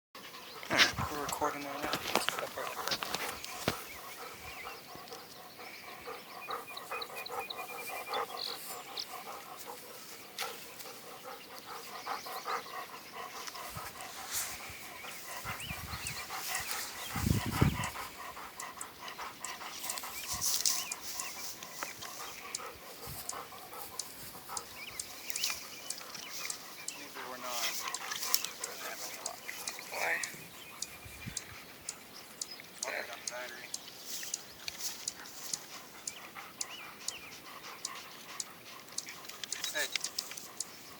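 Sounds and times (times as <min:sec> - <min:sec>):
dog panting: 0:00.2 - 0:40.9.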